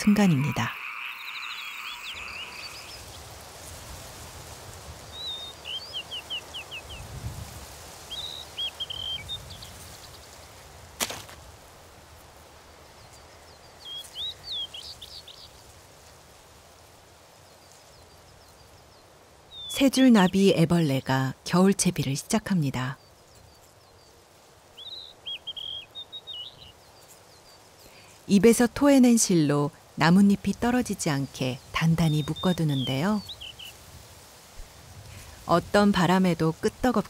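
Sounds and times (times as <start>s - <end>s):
small birds chirping: 0.0s - 4.0s, 4.9s - 7.3s, 7.9s - 10.7s, 12.6s - 16.2s, 17.2s - 34.2s.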